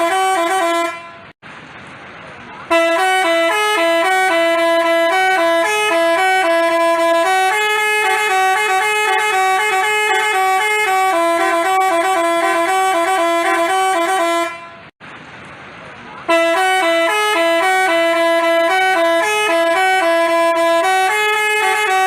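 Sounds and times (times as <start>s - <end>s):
multi-tone bus horn melody: 0.0s - 1.4s, 2.6s - 15.0s, 16.3s - 22.0s.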